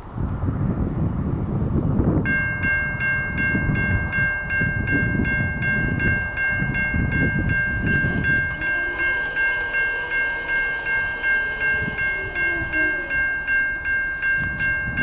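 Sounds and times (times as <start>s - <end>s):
electronic crossing bell ringing: 2.3s - 15.0s.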